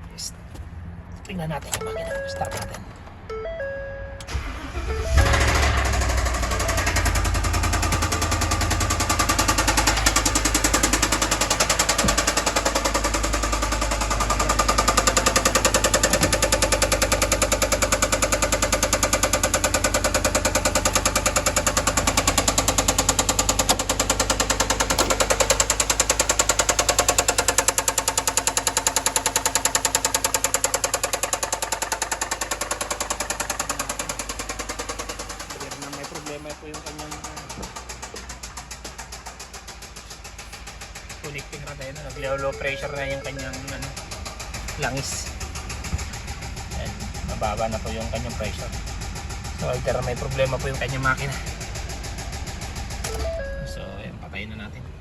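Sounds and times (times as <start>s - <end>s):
engine knocking: 4.4s - 53.4s.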